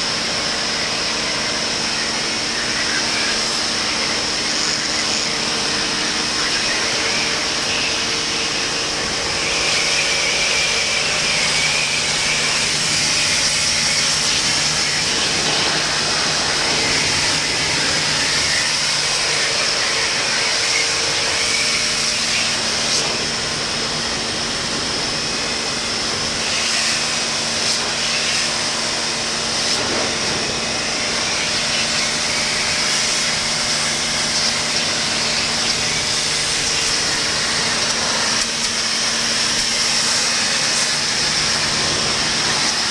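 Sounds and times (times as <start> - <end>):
motor running with hiss and hum: 0.0 - 42.9.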